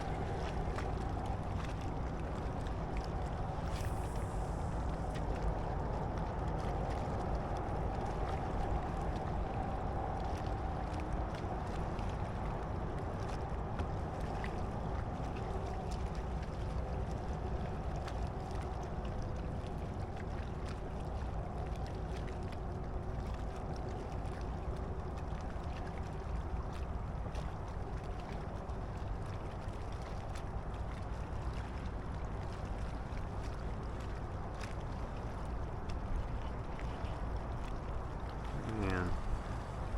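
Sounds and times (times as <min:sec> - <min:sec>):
water lapping: 0:00.0 - 0:39.9
wind: 0:00.0 - 0:39.9.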